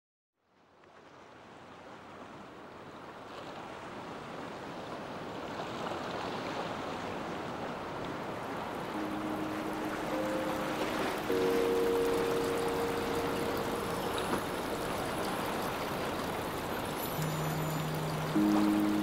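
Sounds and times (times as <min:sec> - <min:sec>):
wind: 0:00.4 - 0:19.0
surf washing against breakwater: 0:01.3 - 0:19.0.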